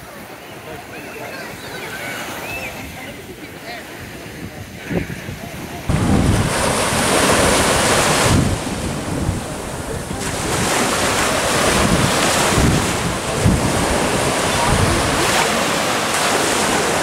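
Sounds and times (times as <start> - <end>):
small waves breaking on shore: 0.0 - 17.0
wind buffeting microphone: 2.5 - 17.0.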